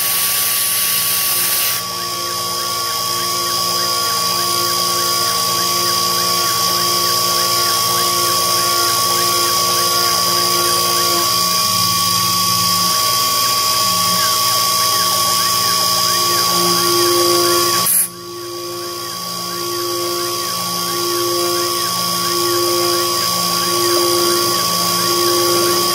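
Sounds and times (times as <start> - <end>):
milling machine spindle whining: 0.0 - 25.9
faint rising and falling tone: 1.9 - 25.9.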